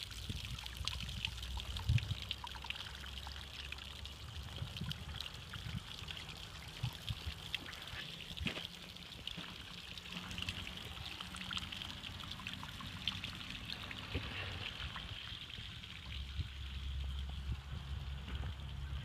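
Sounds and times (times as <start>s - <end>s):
waterfall trickling and splashing: 0.0s - 19.0s.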